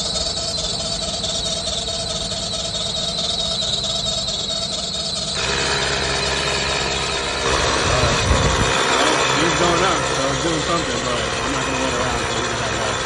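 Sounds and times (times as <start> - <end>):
tyre compressor whining: 0.0 - 13.0.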